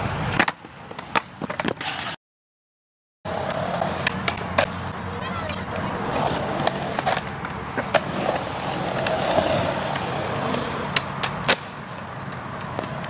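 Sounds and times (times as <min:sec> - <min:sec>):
skateboard wheels rolling on concrete: 0:00.0 - 0:02.2, 0:03.3 - 0:13.0
skateboard clacking on ground: 0:00.3 - 0:02.2, 0:03.3 - 0:13.0.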